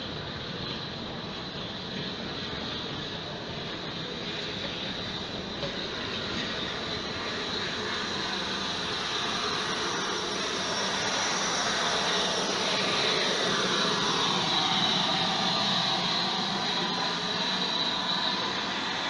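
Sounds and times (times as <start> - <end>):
steam hissing: 0.1 - 19.0.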